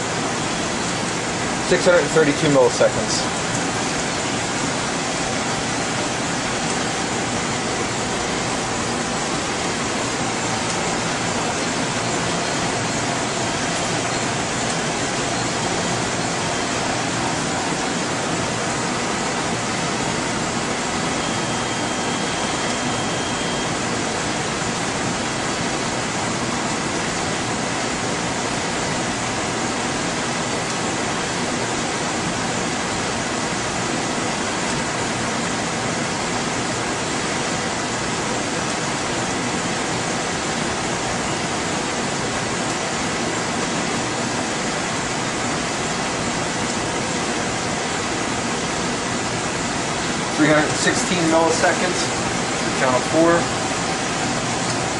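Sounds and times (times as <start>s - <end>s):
faint steady whining tones: 0.0s - 54.9s
ventilation and cooling fans rushing: 0.0s - 54.9s.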